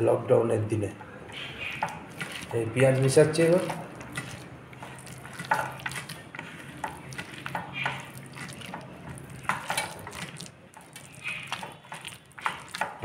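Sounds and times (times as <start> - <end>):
hand mashing food: 1.3 - 13.0.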